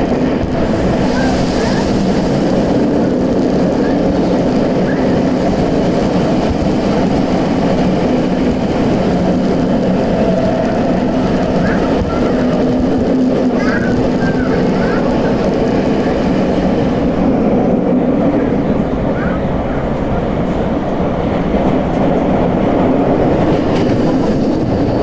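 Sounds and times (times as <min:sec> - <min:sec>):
subway train wheels roaring on rail: 0:00.0 - 0:25.0.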